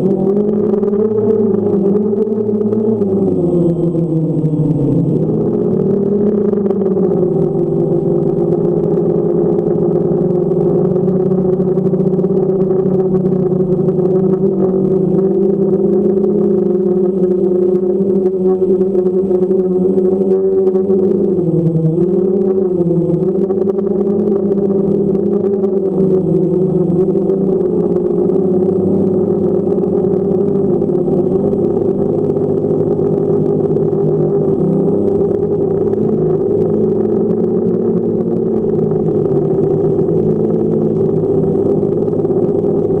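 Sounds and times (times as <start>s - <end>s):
drone propellers humming: 0.0s - 43.0s.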